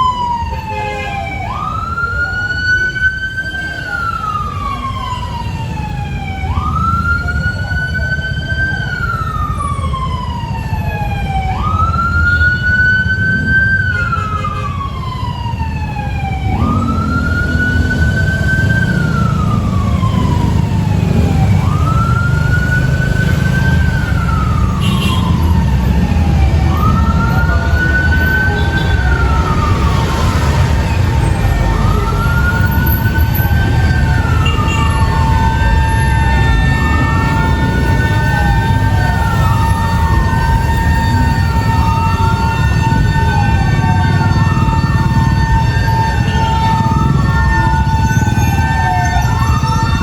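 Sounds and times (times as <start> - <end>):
fire truck siren wailing: 0.0 - 50.0.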